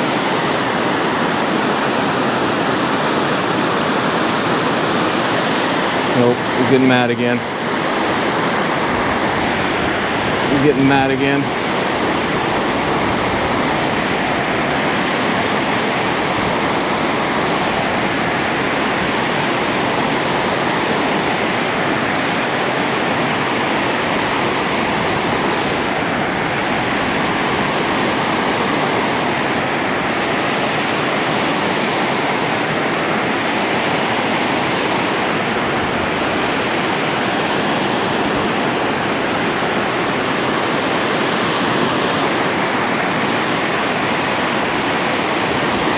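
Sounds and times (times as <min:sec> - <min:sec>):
spillway water rushing: 0:00.0 - 0:45.9.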